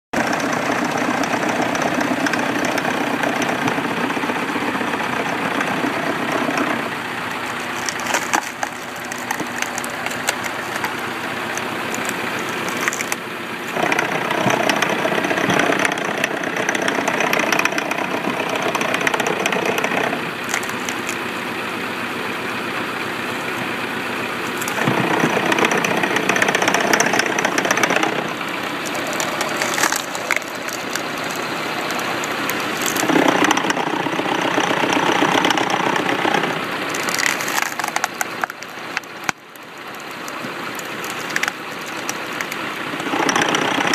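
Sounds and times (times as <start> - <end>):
tractor engine running: 0.0 - 43.9
sharp wood cracks: 0.2 - 43.9.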